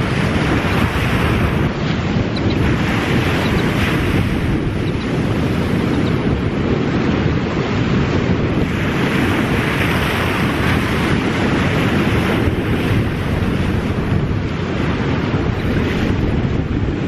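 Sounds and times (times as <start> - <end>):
small waves washing up shore: 0.0 - 17.0
wind buffeting microphone: 0.0 - 17.0.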